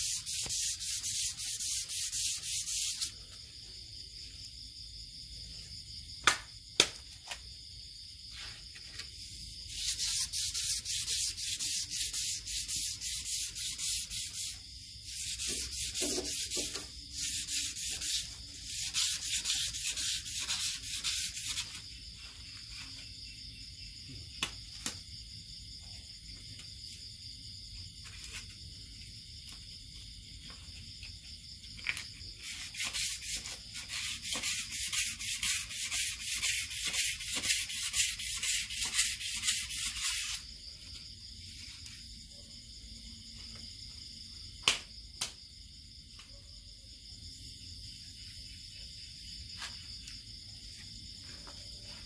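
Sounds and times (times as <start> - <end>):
crickets chirring: 0.0 - 52.0.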